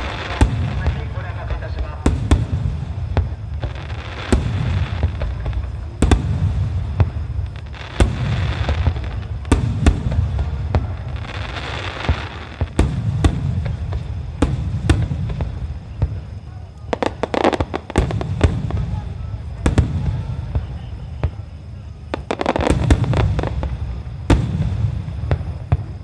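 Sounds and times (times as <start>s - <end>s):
crackling fireworks fizzing: 0.0s - 26.0s
firework shells booming: 0.0s - 26.0s
rumble of echoing explosions: 0.0s - 26.0s.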